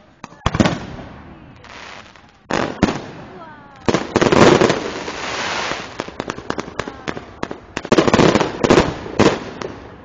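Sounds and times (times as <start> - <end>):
fireworks bangs: 0.2 - 10.0.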